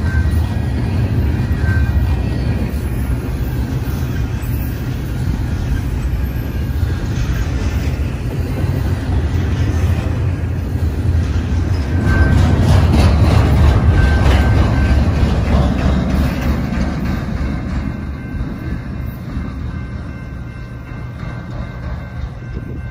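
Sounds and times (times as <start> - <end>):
train cars rumbling past: 0.0 - 22.9.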